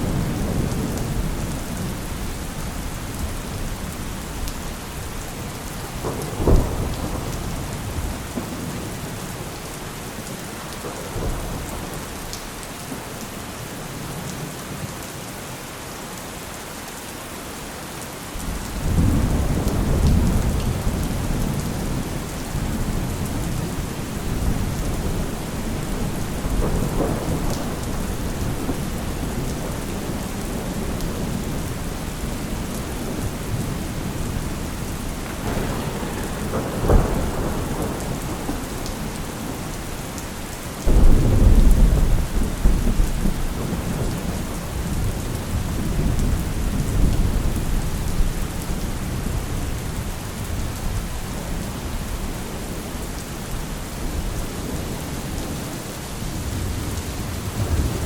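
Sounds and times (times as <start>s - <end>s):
thunder crack and rumble: 0.0s - 9.6s, 10.7s - 12.3s, 18.4s - 52.8s, 56.3s - 58.0s
heavy rain: 0.0s - 58.0s.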